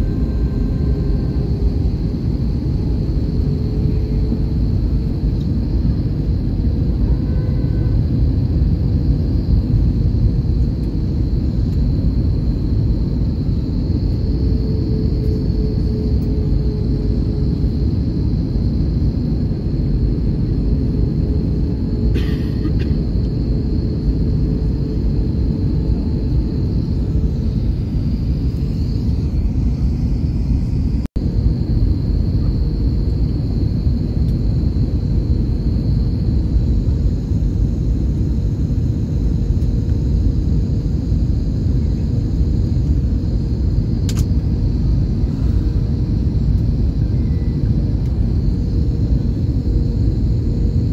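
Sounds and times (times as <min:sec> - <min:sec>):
airplane cabin engine rumble: 0:00.0 - 0:50.9
faint steady whine: 0:00.0 - 0:50.9.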